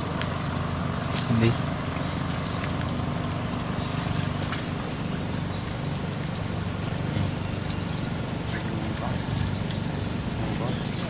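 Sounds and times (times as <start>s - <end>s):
flickering insect trill: 0.0s - 11.0s
shrill insect drone: 0.0s - 11.0s.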